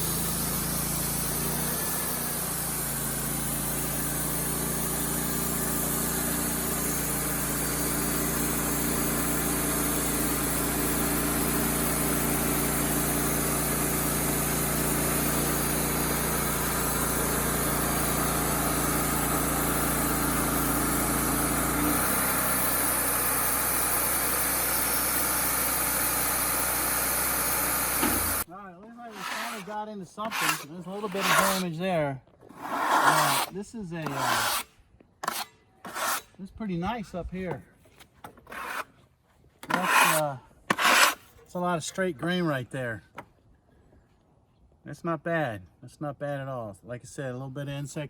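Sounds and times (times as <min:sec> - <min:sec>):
band sawmill sawing log: 0:00.0 - 0:36.5, 0:38.4 - 0:39.0, 0:39.6 - 0:41.7.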